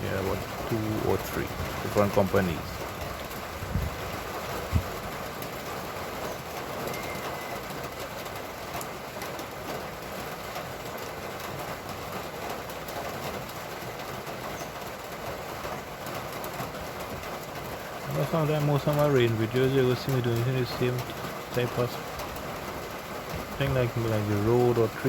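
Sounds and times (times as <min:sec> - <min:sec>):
rain hissing: 0:00.0 - 0:25.0
traffic on wet road: 0:00.0 - 0:25.0.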